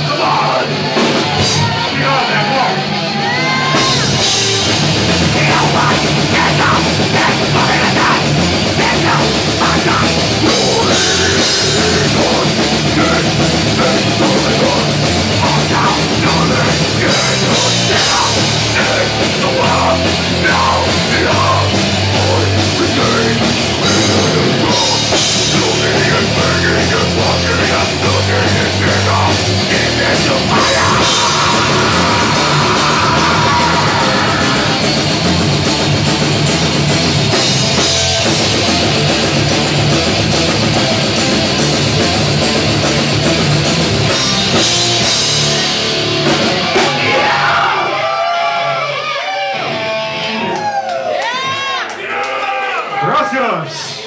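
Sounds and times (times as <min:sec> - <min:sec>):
metal band playing live: 0:00.0 - 0:51.0.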